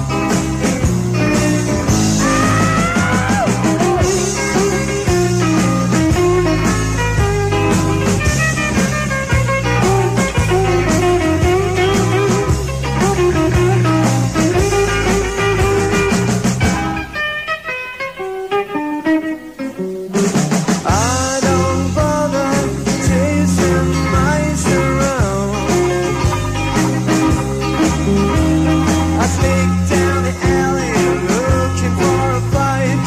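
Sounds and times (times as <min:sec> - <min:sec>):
electric guitar bending notes: 0:00.0 - 0:33.0
rockabilly band playing: 0:00.0 - 0:33.0.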